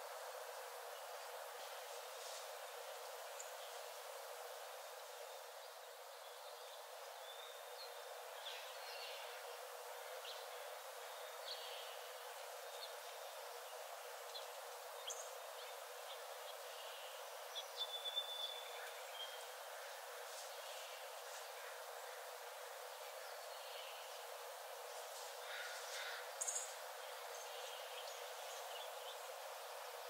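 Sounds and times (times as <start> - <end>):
steady soft hiss: 0.0 - 30.0.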